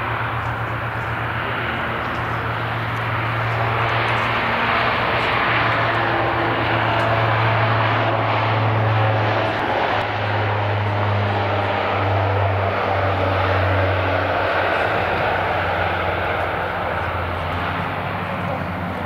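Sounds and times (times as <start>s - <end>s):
low propeller drone: 0.0s - 19.0s
rushing jet engine noise: 0.0s - 19.0s.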